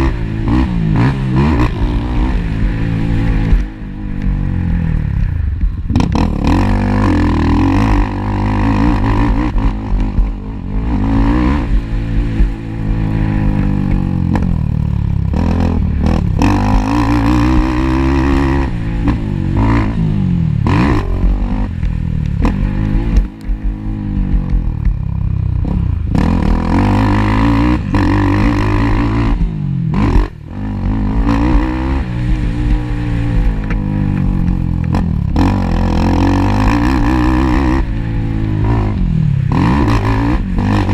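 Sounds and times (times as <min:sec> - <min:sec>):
quad engine revving: 0:00.0 - 0:05.2, 0:05.9 - 0:40.9.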